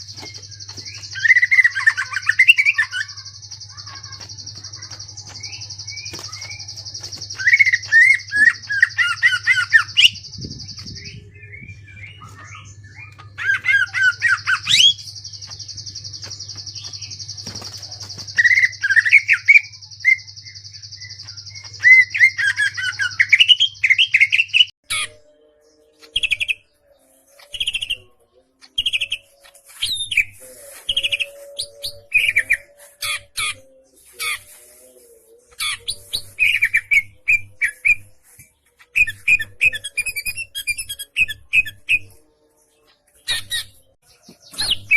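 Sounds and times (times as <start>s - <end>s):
bird chirping: 0.0s - 44.9s.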